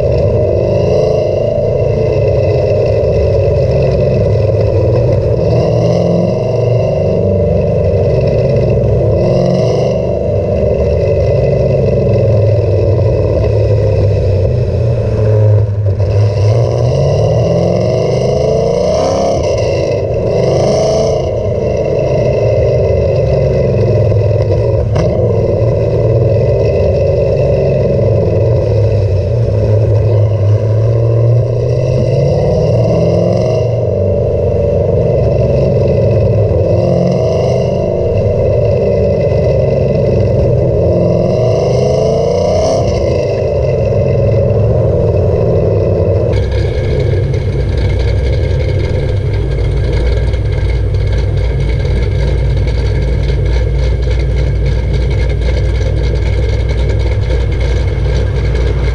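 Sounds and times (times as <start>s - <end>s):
car engine drone and idle: 0.0s - 58.9s.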